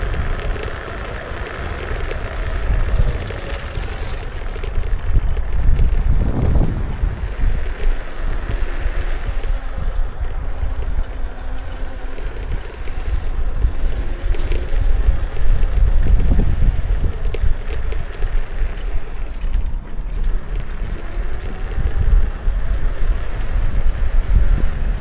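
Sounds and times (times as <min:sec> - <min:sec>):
faint electric motor whine: 0:00.0 - 0:25.0
light rattles: 0:00.0 - 0:25.0
tyre rumble on road: 0:00.0 - 0:25.0
wind buffeting microphone: 0:00.0 - 0:25.0.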